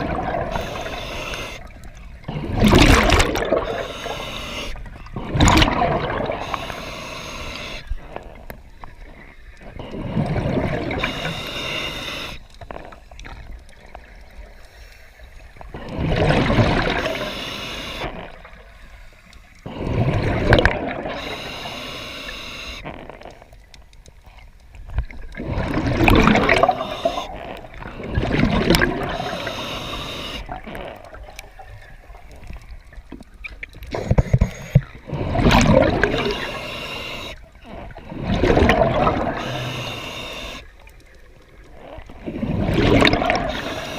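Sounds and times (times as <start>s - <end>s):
water gurgling and splashing: 0.0s - 43.9s.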